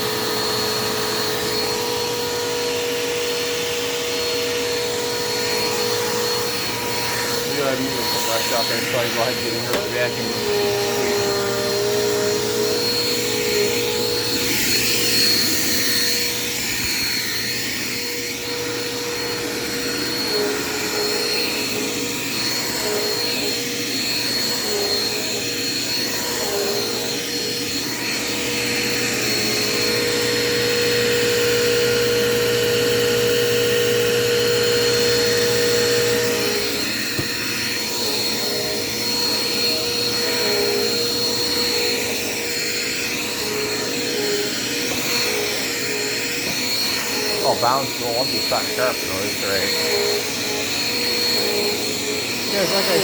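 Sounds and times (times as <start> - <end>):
vacuum cleaner motor whine: 0.0 - 53.0.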